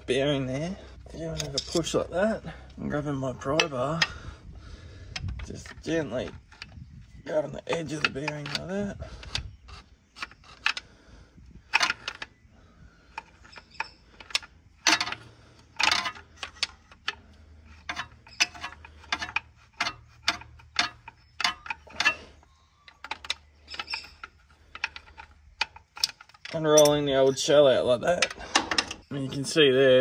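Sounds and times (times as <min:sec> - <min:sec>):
pry bar scraping metal: 0:01.0 - 0:11.0, 0:11.6 - 0:30.0
metal-on-metal clicks: 0:01.2 - 0:02.1, 0:03.4 - 0:04.2, 0:05.1 - 0:10.9, 0:11.6 - 0:12.4, 0:13.0 - 0:30.0.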